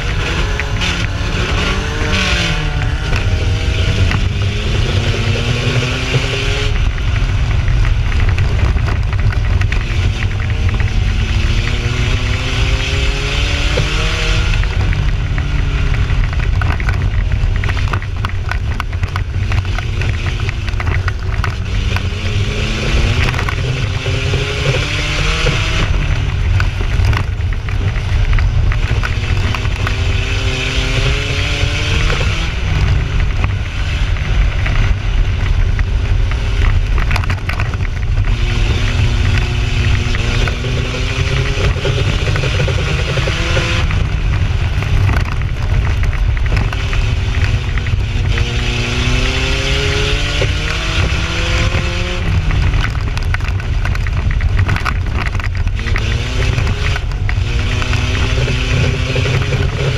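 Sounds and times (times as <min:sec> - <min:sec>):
car engine revving: 0:00.0 - 0:59.9
constant low rumble: 0:00.0 - 0:59.9.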